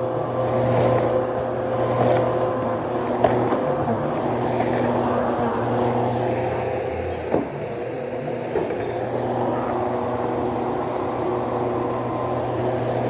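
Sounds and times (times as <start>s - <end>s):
vacuum cleaner motor running: 0.0s - 13.0s.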